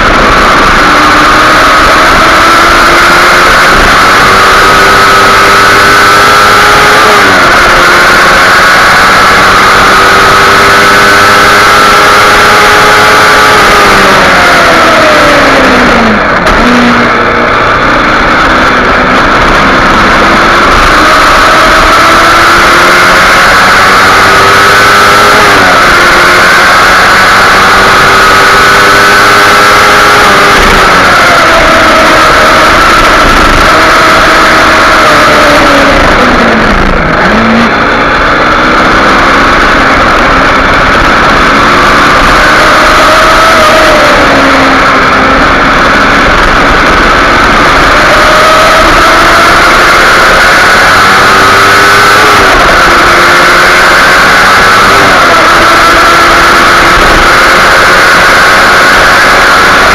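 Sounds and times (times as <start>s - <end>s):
motorcycle engine revving: 0.0s - 59.9s
wind noise: 0.0s - 59.9s.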